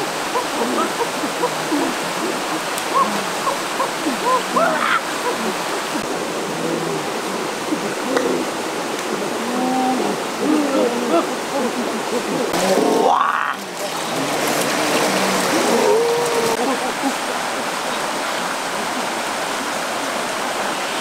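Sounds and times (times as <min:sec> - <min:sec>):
stream rushing over stones: 0:00.0 - 0:21.0.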